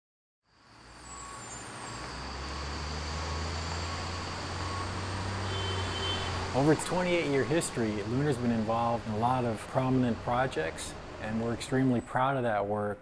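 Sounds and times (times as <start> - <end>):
street traffic engine hum: 0.5 - 12.8.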